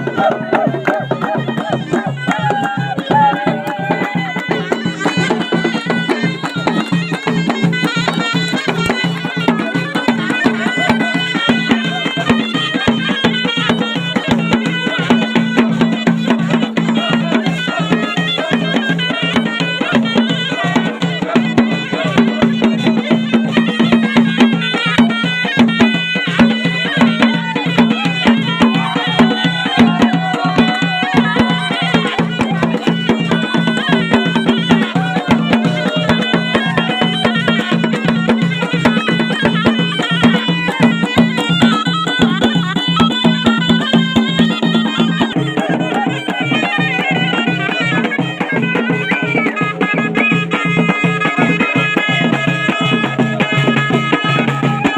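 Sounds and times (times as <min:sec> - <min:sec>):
quick steady drumbeat: 0:00.0 - 0:54.9
shawm playing folk melody: 0:00.0 - 0:54.9.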